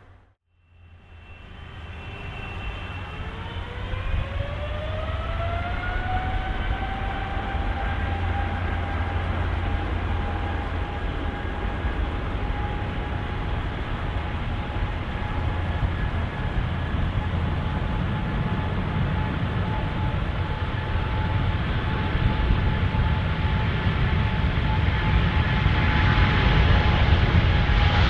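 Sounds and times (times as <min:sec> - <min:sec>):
jet engines whining: 0:00.8 - 0:28.0
deep rumble: 0:01.8 - 0:28.0.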